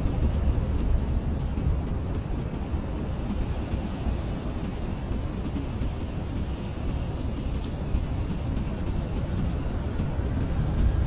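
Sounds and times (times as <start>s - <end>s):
blizzard wind blowing hard: 0.0s - 11.0s.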